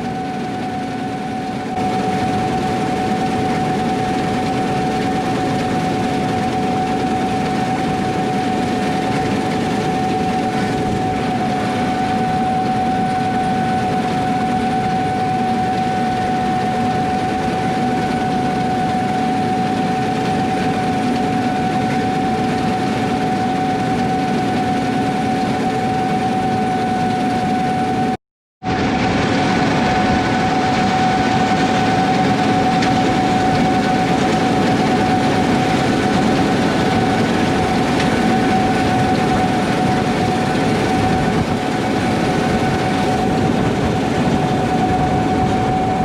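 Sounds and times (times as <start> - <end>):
harvest machinery engine drone: 0.0 - 46.0
high steady whine: 0.0 - 46.0.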